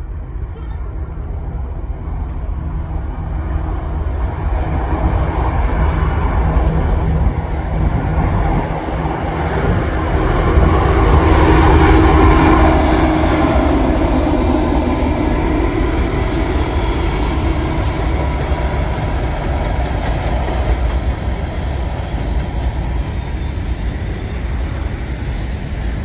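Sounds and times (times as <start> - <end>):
freight cars rumbling and clattering: 0.0 - 26.0
locomotive engine: 0.0 - 26.0.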